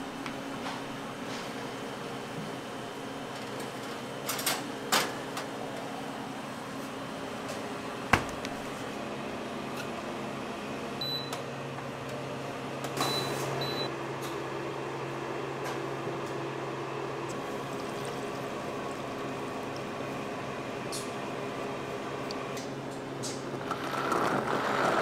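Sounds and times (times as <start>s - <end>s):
appliance low electrical hum: 0.0s - 25.0s.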